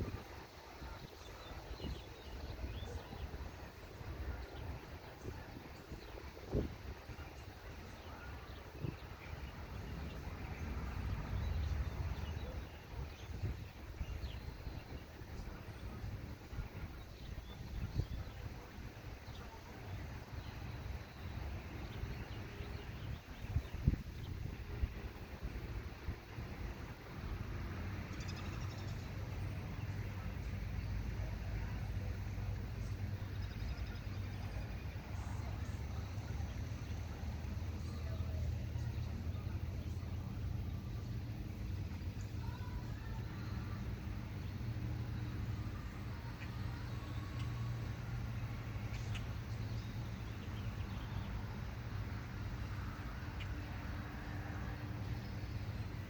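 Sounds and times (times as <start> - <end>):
birds chirping faintly: 0.0 - 56.0
low outdoor rumble: 0.0 - 56.0.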